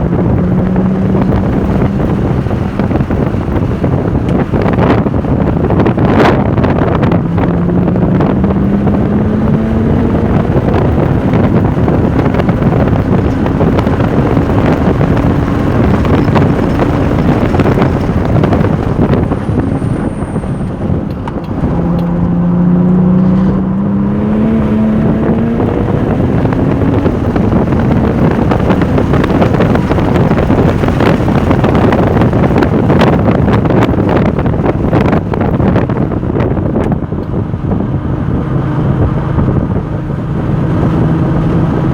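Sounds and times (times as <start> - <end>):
sports car engine accelerating: 0.0 - 41.9
wind and road noise: 0.0 - 41.9.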